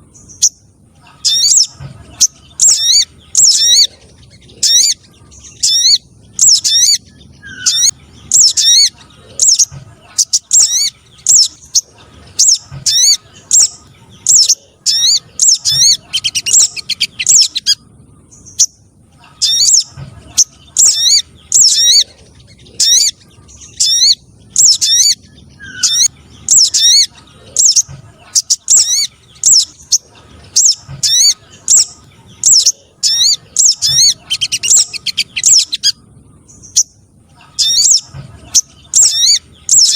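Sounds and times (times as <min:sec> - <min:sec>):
sharp high bird chirps: 0:00.1 - 0:11.8, 0:12.4 - 0:39.9.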